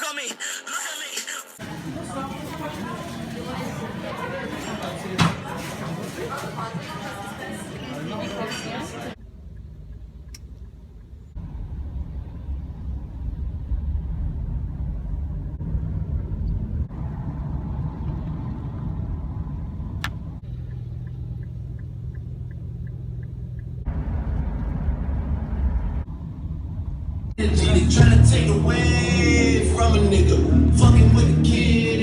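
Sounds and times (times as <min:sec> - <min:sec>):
motor vehicle rumble: 0:01.6 - 0:32.0.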